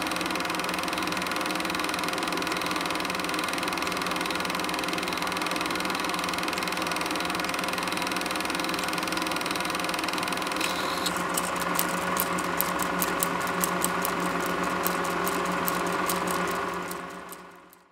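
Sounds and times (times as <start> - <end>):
film projector whirring: 0.0 - 17.9
sharp clicks of projector: 0.3 - 17.9.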